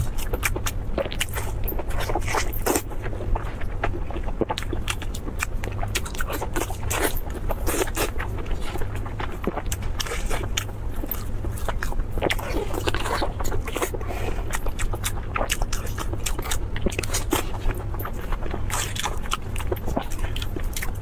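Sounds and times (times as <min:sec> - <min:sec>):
crunchy chewing: 0:00.0 - 0:21.0
steady low hum: 0:00.0 - 0:21.0.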